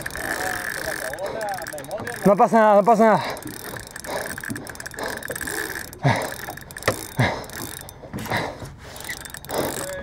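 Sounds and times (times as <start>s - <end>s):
fishing reel clicking and whirring: 0.0s - 10.0s.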